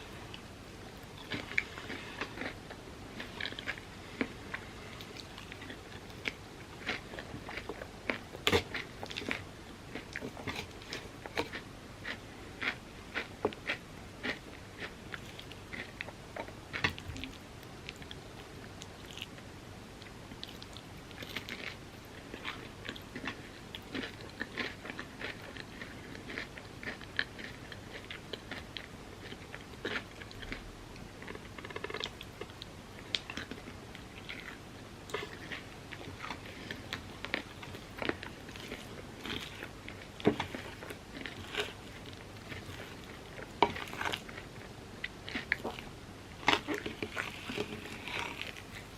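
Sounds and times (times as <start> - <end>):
chewing and crunching food: 0.0 - 48.9.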